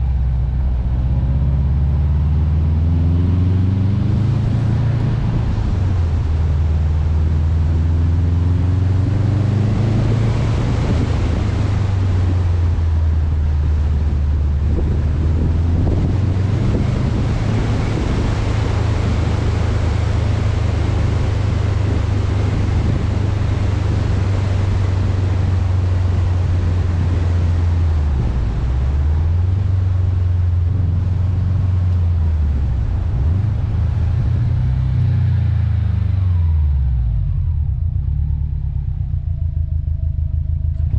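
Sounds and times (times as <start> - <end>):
wind buffeting microphone: 0.0 - 36.2
car engine droning while driving: 0.0 - 40.9.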